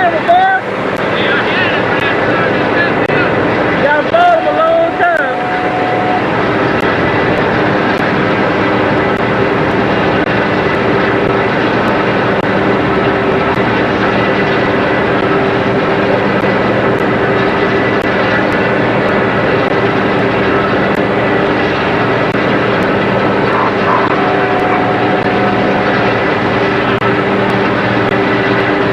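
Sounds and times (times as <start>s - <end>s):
boat engine droning: 0.0s - 28.9s.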